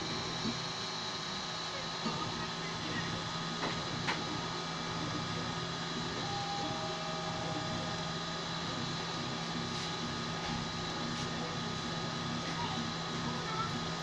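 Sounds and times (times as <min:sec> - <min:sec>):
stepper motor whine: 0:00.0 - 0:14.0
three-d printer humming: 0:00.0 - 0:14.0.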